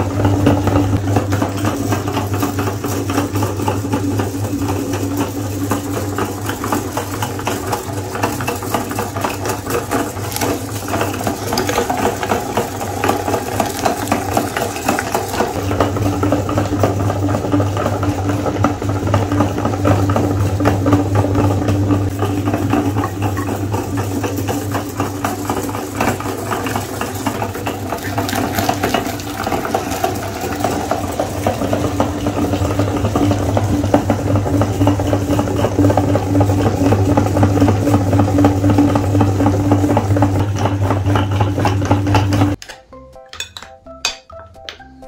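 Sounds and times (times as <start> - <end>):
meat grinder running: 0.0 - 42.6.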